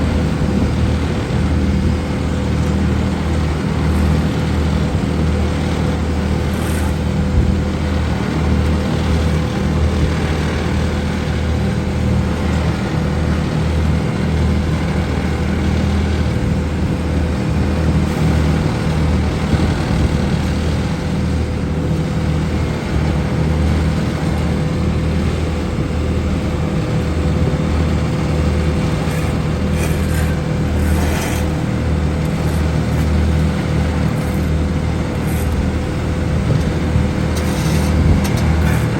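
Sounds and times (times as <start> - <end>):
deep engine drone: 0.0 - 38.9
steady machinery whine: 0.0 - 38.9.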